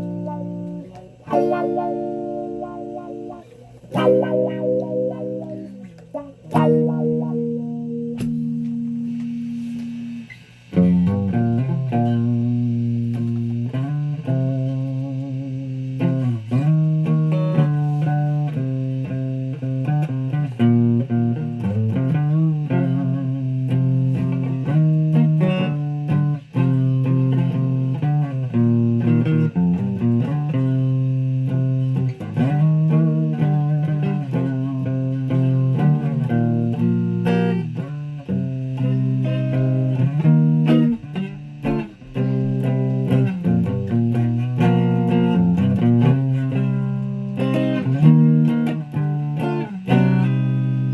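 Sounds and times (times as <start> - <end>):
guitar plucked notes sliding: 0.0 - 50.9.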